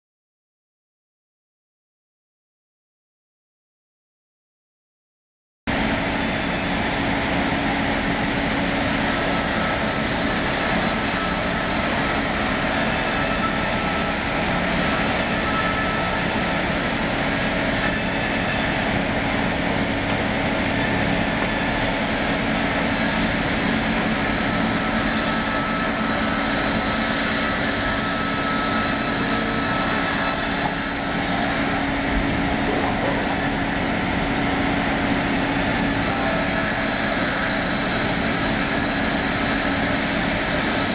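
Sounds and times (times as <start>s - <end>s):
sawmill sawing log: 5.8s - 40.9s.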